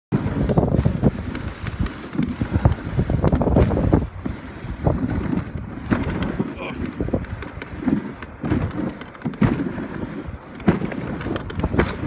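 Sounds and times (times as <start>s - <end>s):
sled frame knocking: 0.1s - 12.0s
sled runners scraping snow: 0.1s - 12.0s
wind rumble on microphone: 0.1s - 12.0s.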